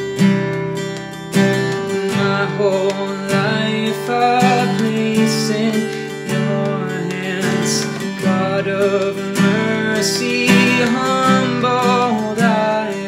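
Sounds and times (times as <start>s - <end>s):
acoustic guitar strumming: 0.0s - 13.0s
wordless vocal line: 1.7s - 13.0s.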